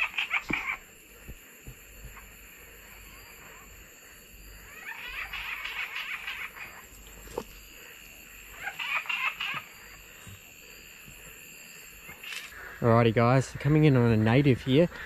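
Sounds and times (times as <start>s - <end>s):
high insect drone: 0.0s - 15.0s
rapid animal calls: 0.0s - 15.0s.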